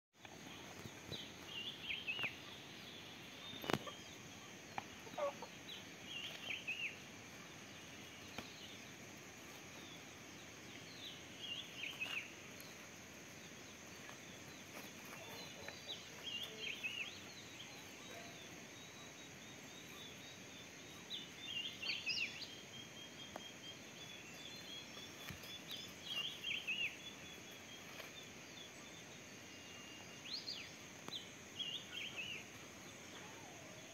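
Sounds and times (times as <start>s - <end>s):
bird chirping: 0.2s - 33.9s.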